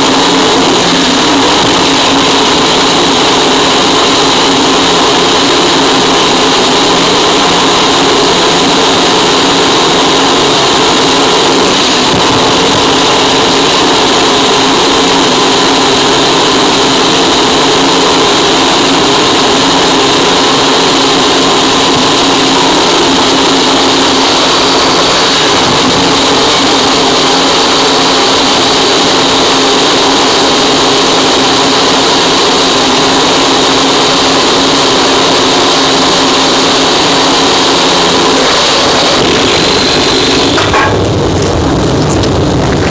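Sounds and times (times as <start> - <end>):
distorted static noise wall: 0.0 - 42.9.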